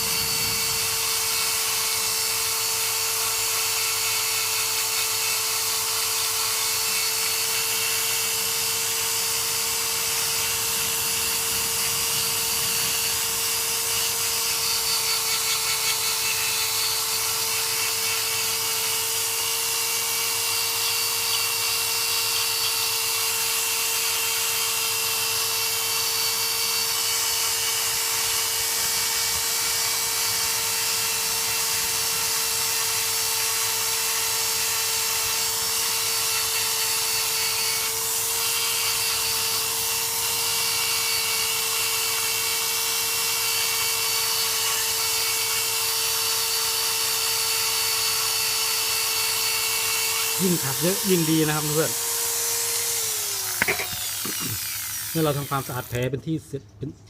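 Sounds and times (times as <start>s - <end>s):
small power tool whining: 0.0s - 56.1s.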